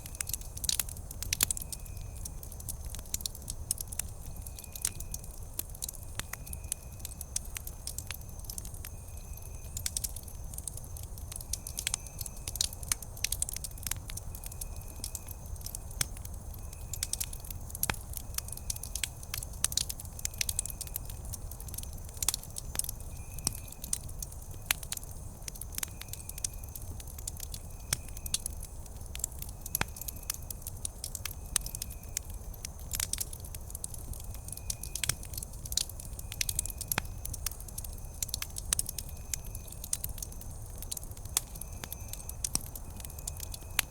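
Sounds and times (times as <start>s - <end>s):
campfire crackling and popping: 0.0s - 43.9s
low fire rumble: 0.0s - 43.9s.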